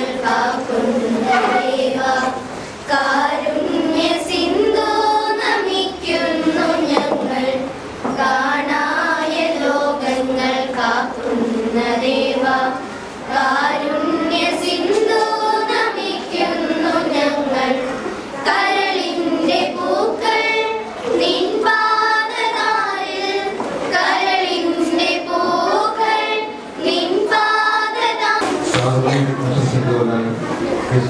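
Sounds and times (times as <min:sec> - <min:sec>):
children singing together: 0:00.0 - 0:29.8.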